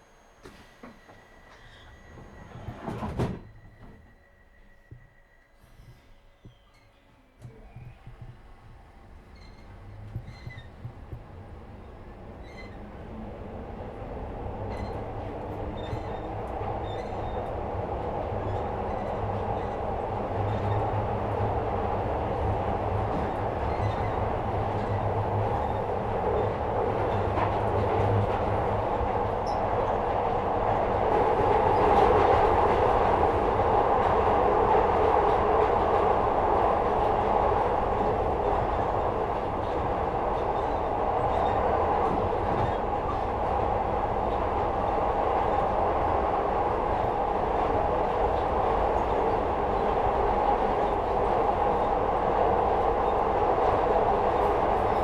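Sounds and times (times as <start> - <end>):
train wheels rumbling: 0.4 - 55.0.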